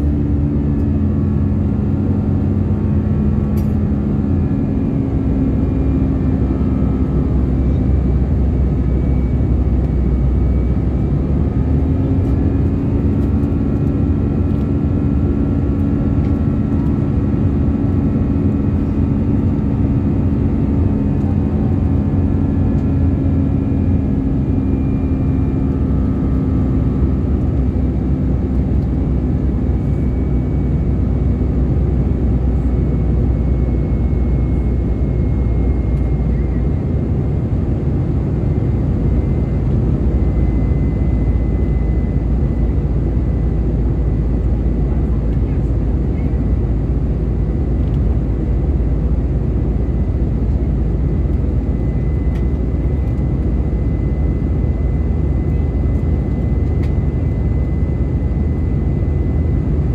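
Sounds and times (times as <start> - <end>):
aircraft cabin engine drone: 0.0 - 59.9.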